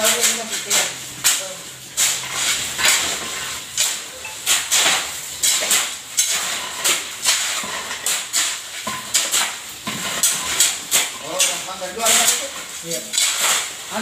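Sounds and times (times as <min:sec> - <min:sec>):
shovels scraping concrete mix: 0:00.0 - 0:14.0.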